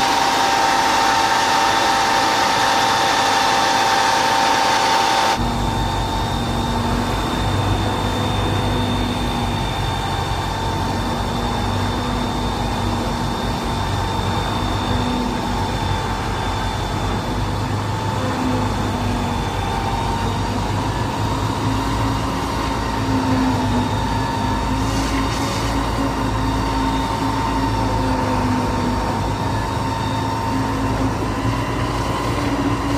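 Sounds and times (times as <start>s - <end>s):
constant engine whine: 0.0s - 32.9s
diesel engine running: 0.0s - 32.9s.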